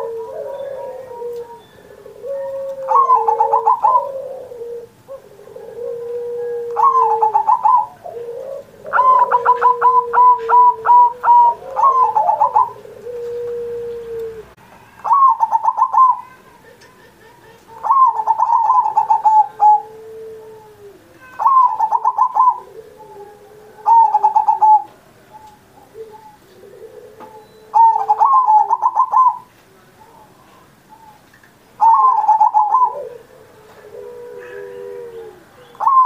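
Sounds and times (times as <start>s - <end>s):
dove cooing: 0.0s - 16.8s, 17.6s - 36.0s.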